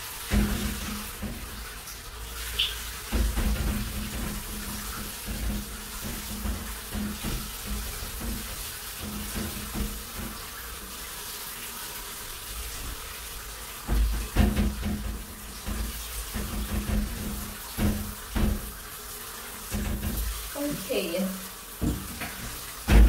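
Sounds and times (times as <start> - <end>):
shower water spraying: 0.0 - 23.0.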